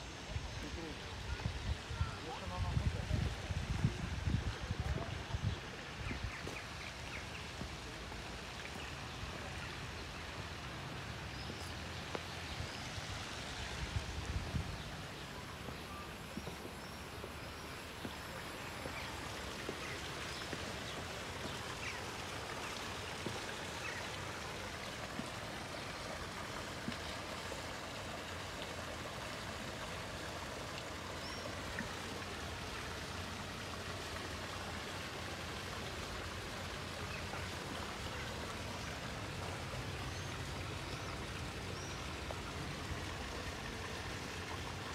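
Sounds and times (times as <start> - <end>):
fountain water pouring into pond: 0.2 - 44.9.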